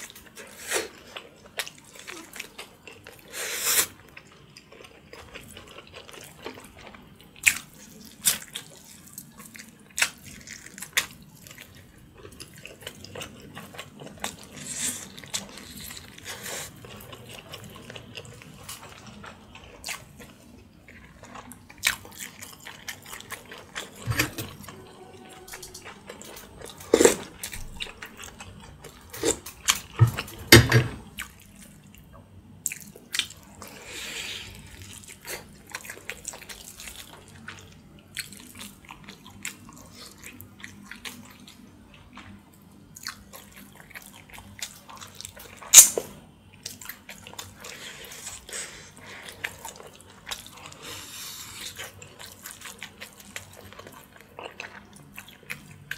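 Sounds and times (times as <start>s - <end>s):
chewing: 0.0s - 30.4s, 31.2s - 46.0s, 46.6s - 55.9s.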